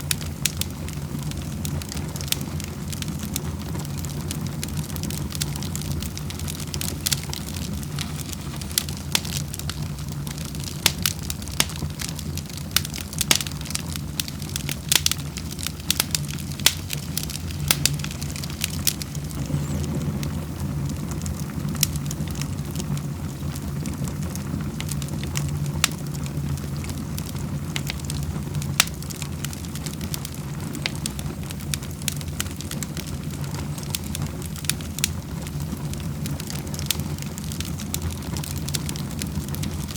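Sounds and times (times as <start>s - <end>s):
low fire rumble: 0.0s - 39.9s
wood fire crackling: 0.0s - 39.9s.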